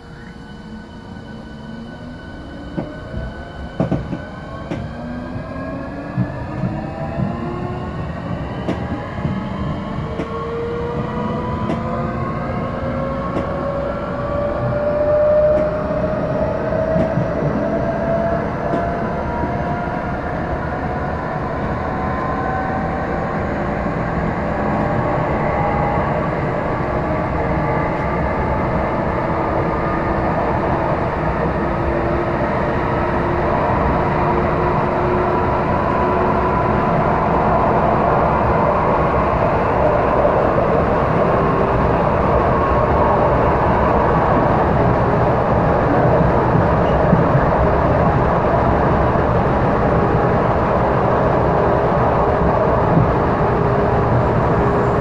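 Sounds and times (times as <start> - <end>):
wheels rumbling on track: 0.1 - 55.0.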